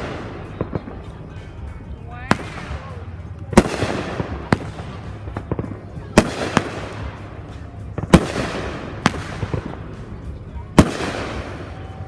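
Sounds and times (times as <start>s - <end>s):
fireworks bangs: 0.0s - 1.6s, 2.3s - 12.0s
fireworks crackle: 0.0s - 12.0s.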